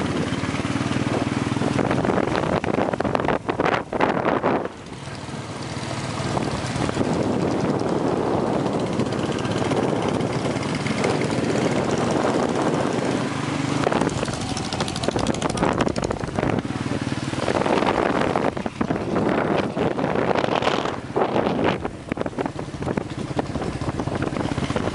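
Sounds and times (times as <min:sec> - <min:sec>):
motorcycle engine running: 0:00.0 - 0:24.9
wind rushing over microphone: 0:00.0 - 0:24.9.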